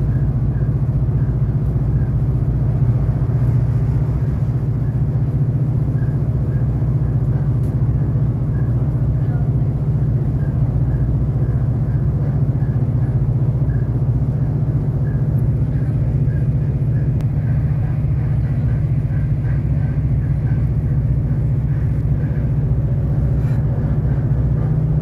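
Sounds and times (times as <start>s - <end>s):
train engine drone: 0.0s - 25.0s
wheels rumbling on track: 0.0s - 25.0s.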